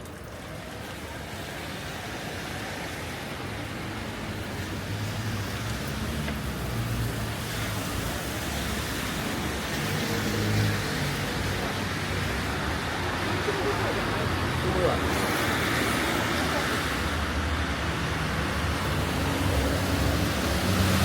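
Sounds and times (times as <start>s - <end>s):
rain: 0.0s - 21.0s
tyres hissing on wet road: 0.0s - 21.0s
car engines humming: 2.4s - 21.0s.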